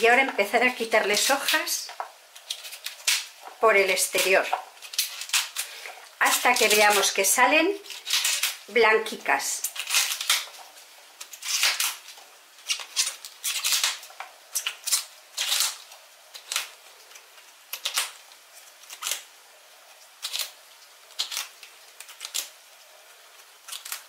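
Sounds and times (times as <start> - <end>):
artichoke leaves snapping: 1.1 - 8.7, 9.6 - 19.3, 19.9 - 22.6, 23.3 - 24.0.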